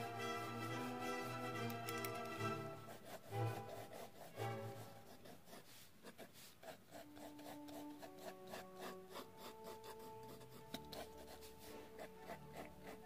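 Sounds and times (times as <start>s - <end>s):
soft background music: 0.0s - 5.6s, 6.7s - 13.0s
pencil scratching on paper: 0.0s - 13.0s.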